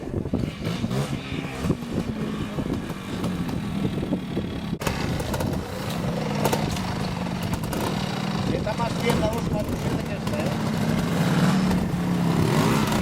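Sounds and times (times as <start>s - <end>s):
two-stroke motorcycle engine blipping: 0.0s - 13.0s.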